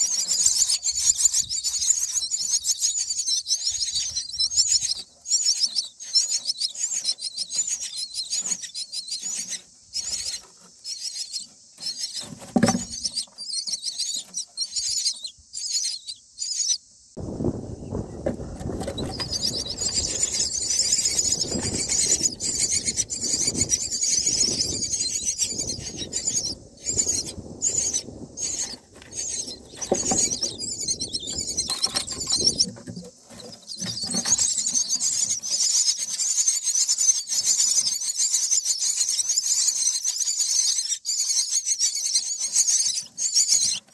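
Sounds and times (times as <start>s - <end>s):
nestlings chittering: 0.0s - 43.9s.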